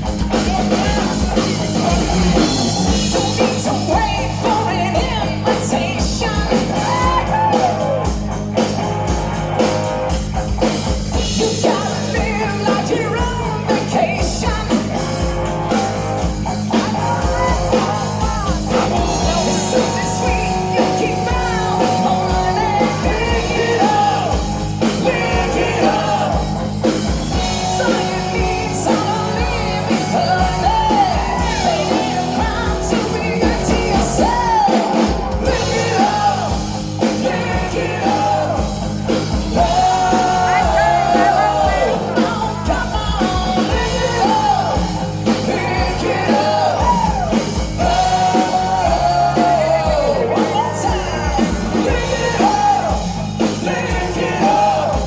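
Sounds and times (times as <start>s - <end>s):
person singing: 0.0s - 8.7s, 11.2s - 55.0s
rock band playing live: 0.0s - 55.0s.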